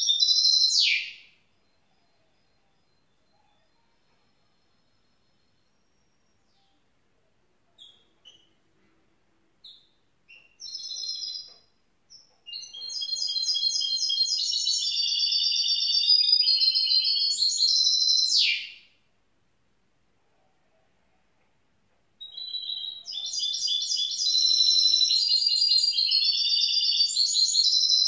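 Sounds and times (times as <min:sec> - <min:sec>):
bird chirping and twittering song: 0:00.0 - 0:06.9, 0:07.8 - 0:08.6, 0:09.6 - 0:18.9, 0:22.2 - 0:28.0.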